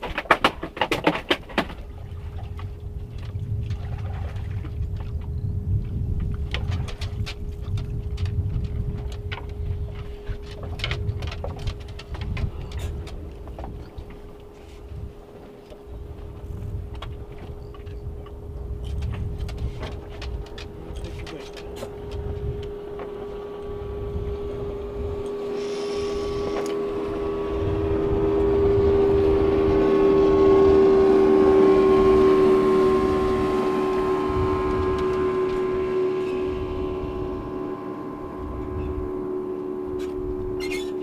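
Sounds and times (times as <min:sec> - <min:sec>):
outboard engine running: 0:00.0 - 0:41.0
wind rumbling on microphone: 0:00.0 - 0:41.0.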